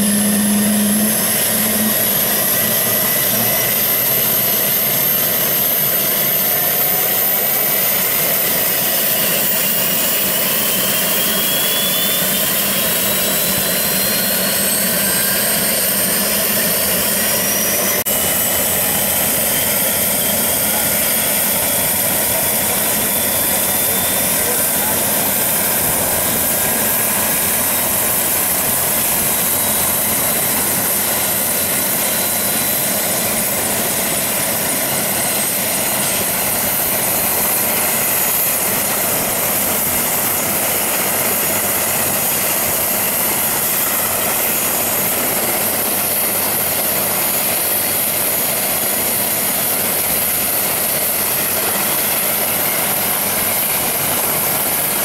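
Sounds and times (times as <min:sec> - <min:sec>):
helicopter idling: 0:00.0 - 0:55.0.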